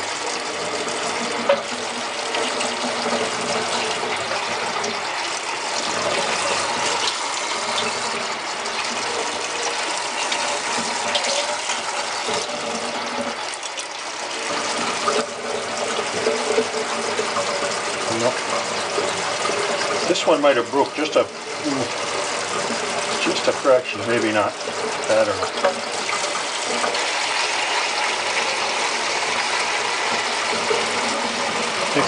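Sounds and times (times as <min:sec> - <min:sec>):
faucet running water: 0:00.0 - 0:32.0.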